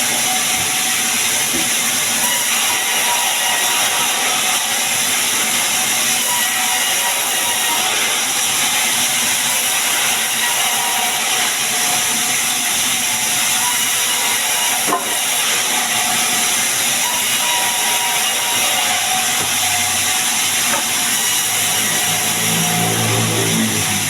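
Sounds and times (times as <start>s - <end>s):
saw cutting wood: 0.0s - 24.0s.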